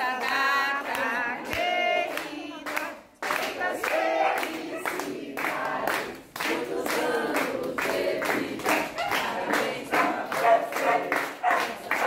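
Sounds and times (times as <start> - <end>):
group singing together: 0.0 - 12.0
people clapping in time: 0.0 - 12.0.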